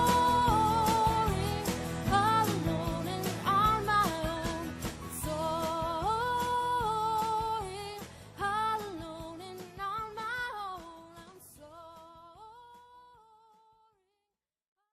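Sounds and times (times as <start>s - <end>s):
soft instrumental accompaniment: 0.0s - 12.6s
person singing: 0.0s - 13.4s.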